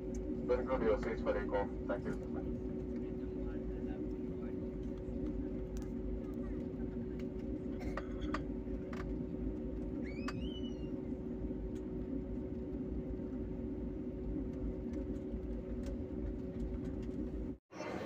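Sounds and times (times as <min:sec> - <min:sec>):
jet engine hum in cabin: 0:00.0 - 0:18.0.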